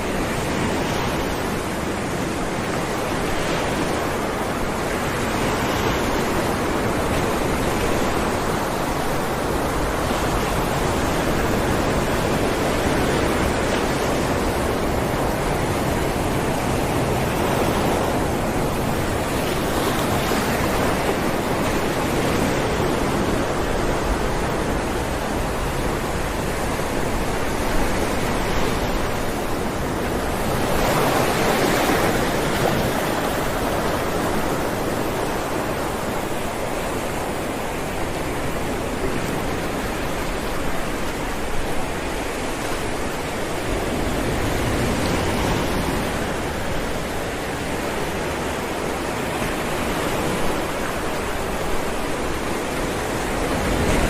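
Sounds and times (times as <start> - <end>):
ocean waves breaking on rocks: 0.0 - 54.0.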